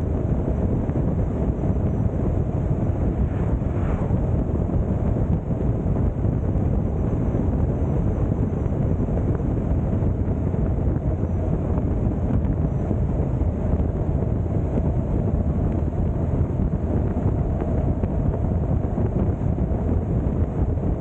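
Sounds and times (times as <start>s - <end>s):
moving vehicle noise: 0.0s - 21.0s
wind buffeting microphone: 0.0s - 21.0s.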